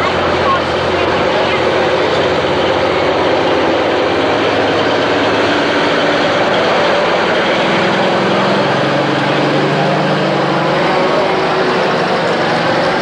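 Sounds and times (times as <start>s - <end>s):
truck diesel engine passing: 0.0s - 13.0s.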